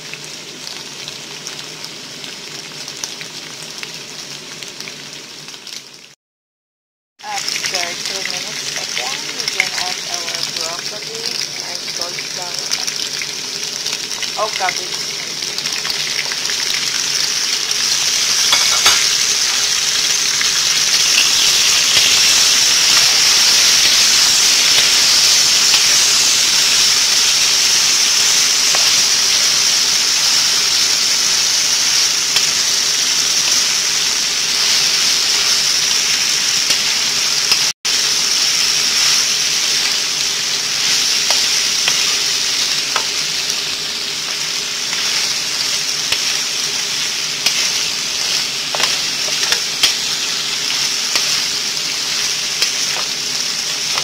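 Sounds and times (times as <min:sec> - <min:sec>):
food sizzling in a pan: 0:00.0 - 0:06.2, 0:07.2 - 0:54.0.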